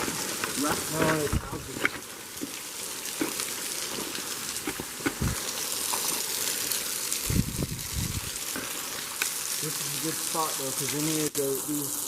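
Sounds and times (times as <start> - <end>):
running water hissing: 0.0 - 12.0.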